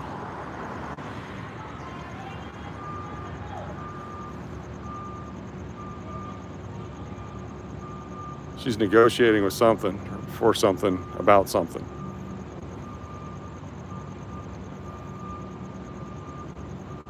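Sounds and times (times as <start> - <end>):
low engine and traffic rumble: 0.0 - 17.0
reversing alarm beeping: 0.0 - 17.0.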